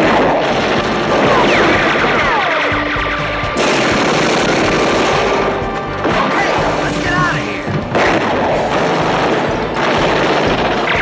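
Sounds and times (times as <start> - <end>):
rapid rifle gunfire: 0.0 - 3.0, 3.6 - 7.0, 7.9 - 11.0
action music score: 0.0 - 11.0.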